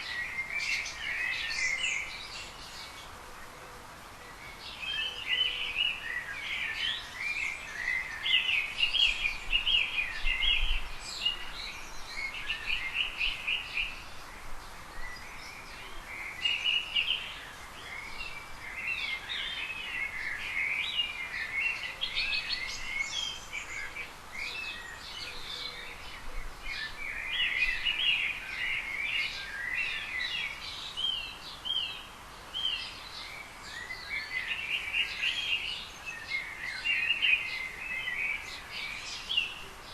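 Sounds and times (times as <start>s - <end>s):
small birds chirping: 0.0s - 3.2s, 3.9s - 39.9s.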